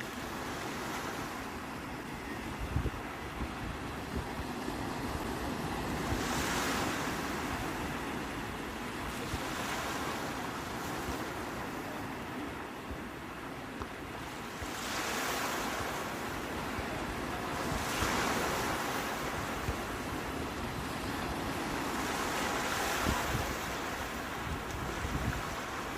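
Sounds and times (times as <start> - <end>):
sea waves breaking on shore: 0.0 - 25.9.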